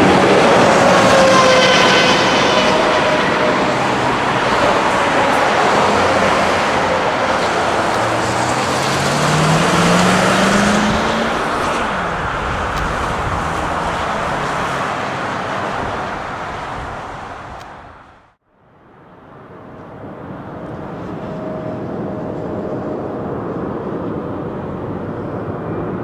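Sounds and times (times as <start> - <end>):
jet engines roaring at takeoff: 0.0 - 18.2, 19.3 - 26.0.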